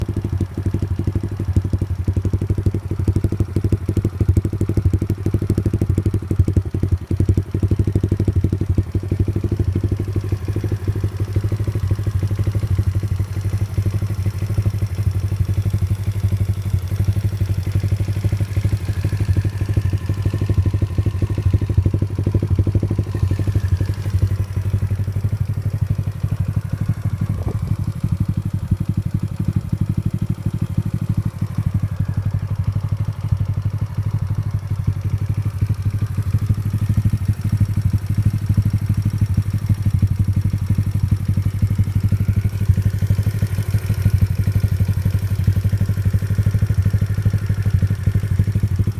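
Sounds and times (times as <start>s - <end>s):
small motorbike engine idling: 0.0s - 48.9s.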